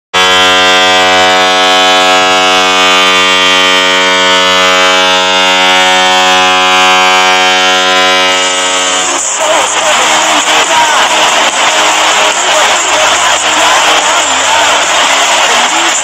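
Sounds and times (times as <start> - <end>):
goal horn blast: 0.1 - 16.0.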